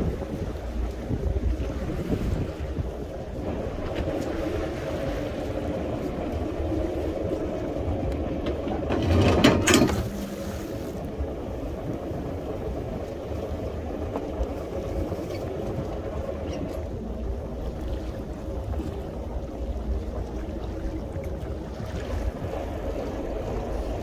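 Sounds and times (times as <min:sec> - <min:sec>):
boat engine drone: 0:00.0 - 0:24.0
water rushing past hull: 0:00.0 - 0:24.0.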